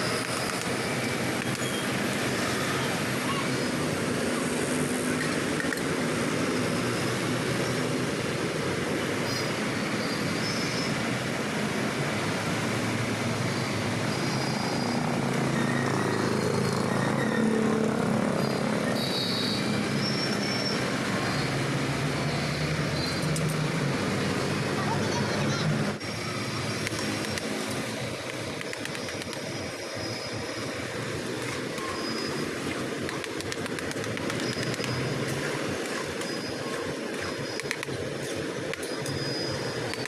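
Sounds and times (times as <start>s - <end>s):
traffic hiss and rumble: 0.0s - 40.0s.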